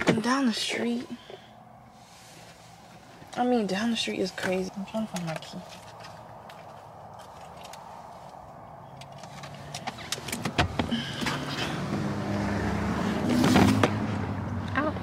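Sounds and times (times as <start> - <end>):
car interior hum: 0.0 - 15.0.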